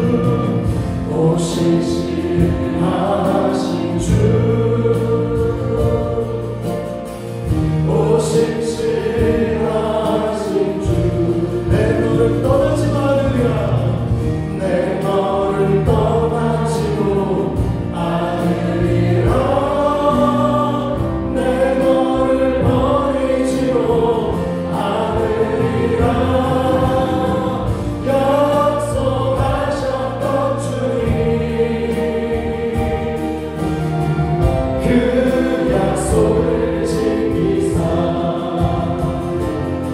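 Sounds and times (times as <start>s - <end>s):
bass guitar: 0.0s - 39.9s
drums: 0.0s - 39.9s
group singing gospel song: 0.0s - 39.9s.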